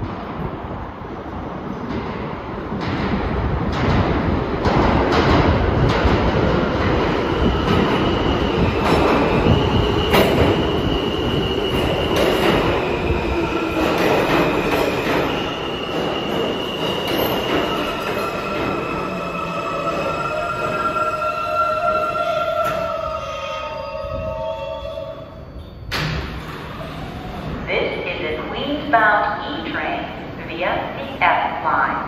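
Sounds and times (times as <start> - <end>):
train wheels rumbling and clacking: 0.0 - 27.7
falling whine of train: 0.0 - 28.5.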